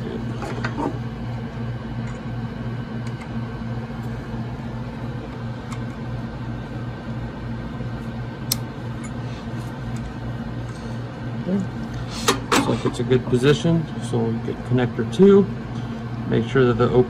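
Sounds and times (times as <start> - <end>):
electrical hum: 0.0 - 17.0
fan whir: 0.0 - 17.0.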